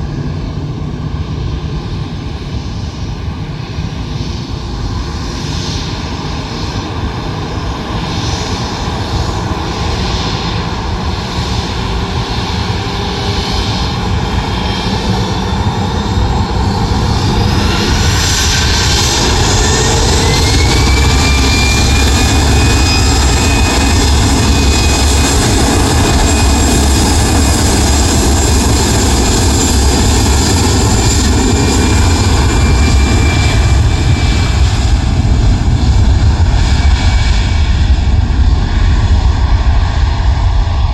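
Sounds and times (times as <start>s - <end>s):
jet engine whine: 0.0s - 40.9s
jet engines rumbling: 0.0s - 40.9s.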